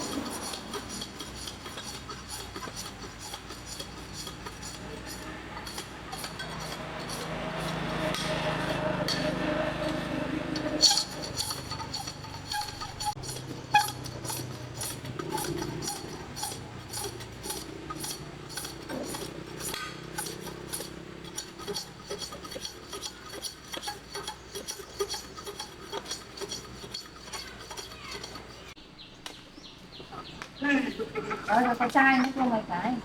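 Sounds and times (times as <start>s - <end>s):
small tools clinking and scraping: 0.0s - 28.8s.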